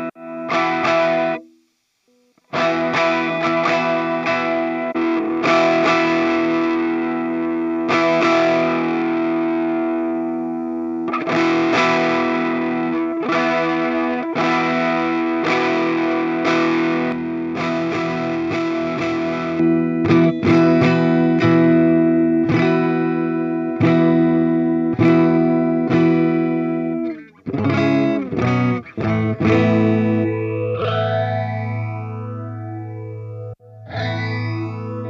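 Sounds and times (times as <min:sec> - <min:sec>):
distorted electric guitar chords: 0:00.0 - 0:35.0.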